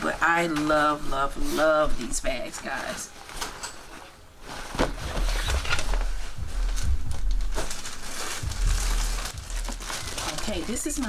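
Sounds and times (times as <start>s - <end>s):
fabric bag rustling: 0.0s - 11.0s.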